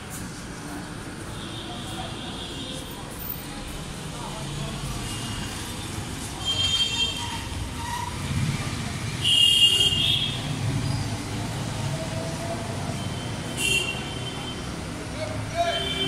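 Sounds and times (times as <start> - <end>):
passing vehicles hum: 0.0 - 16.0.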